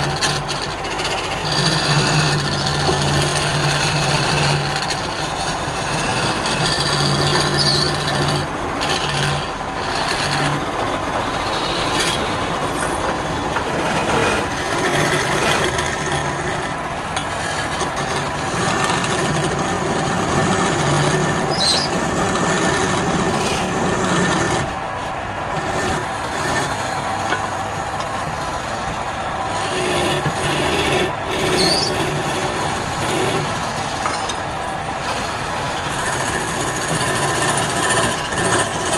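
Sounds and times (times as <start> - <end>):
lathe motor hum: 0.0 - 38.9
lathe tool scraping wood: 0.0 - 38.9.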